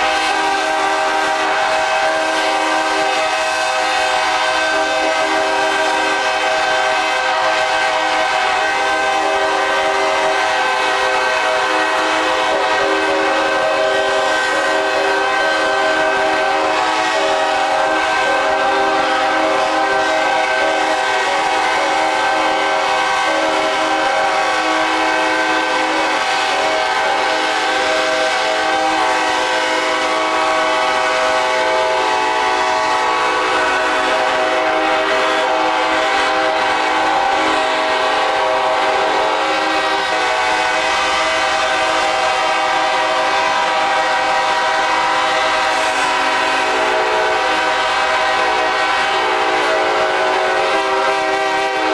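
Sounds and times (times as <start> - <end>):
locomotive air horns chord: 0.0 - 51.9.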